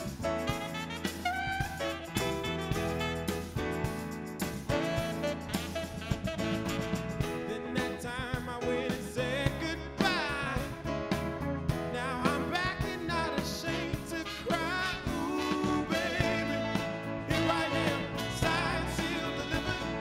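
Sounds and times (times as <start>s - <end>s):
drums steady beat: 0.0s - 20.0s
live band playing upbeat song: 0.0s - 20.0s.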